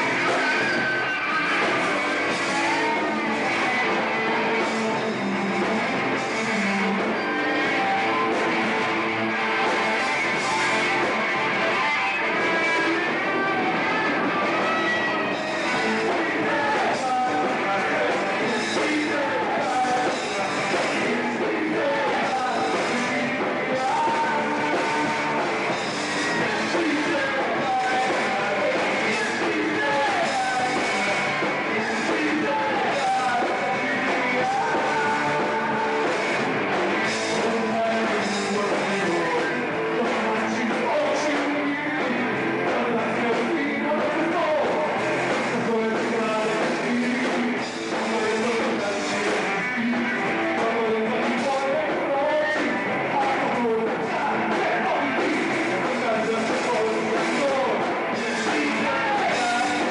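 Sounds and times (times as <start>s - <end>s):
heavy metal band playing live: 0.0s - 59.9s
man singing: 0.0s - 59.9s.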